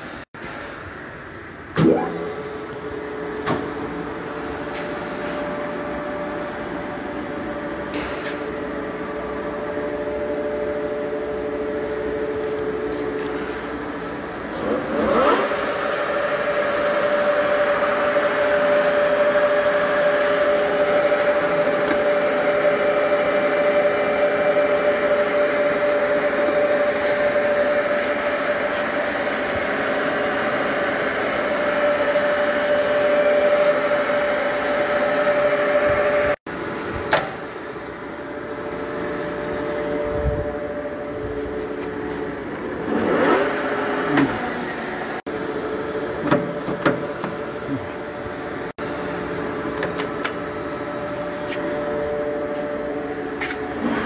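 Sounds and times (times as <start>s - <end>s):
lathe whining and rattling: 2.2s - 54.0s.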